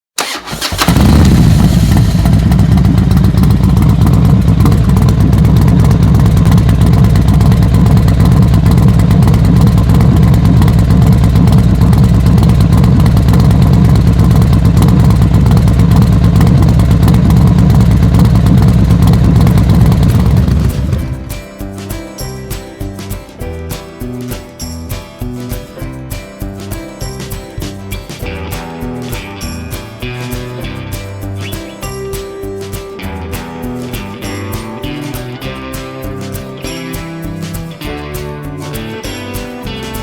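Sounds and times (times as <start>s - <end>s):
motorcycle engine running: 0.2s - 22.4s, 27.6s - 40.0s.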